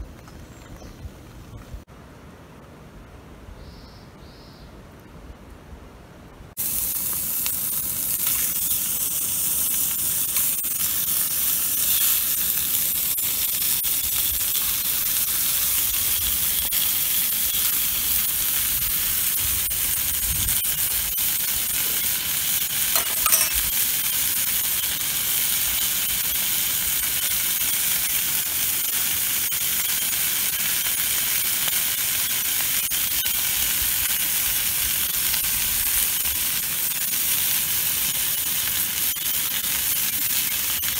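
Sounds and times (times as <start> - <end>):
bacon sizzling in skillet: 6.6 - 40.9.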